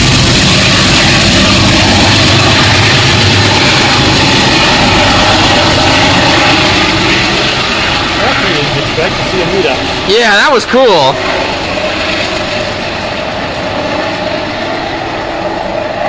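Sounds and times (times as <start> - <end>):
diesel train engine drone: 0.0 - 16.0
train wheel and rail noise: 0.0 - 16.0.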